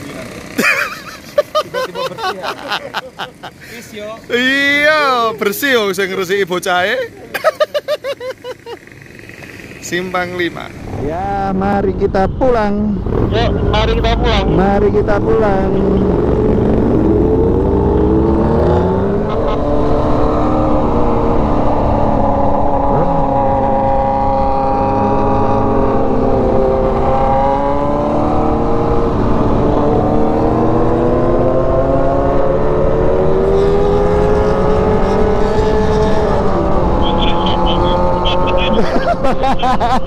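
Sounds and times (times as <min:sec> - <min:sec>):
motorcycle engine revving: 0:00.0 - 0:05.3, 0:08.4 - 0:40.0
wind and road noise: 0:00.0 - 0:40.0.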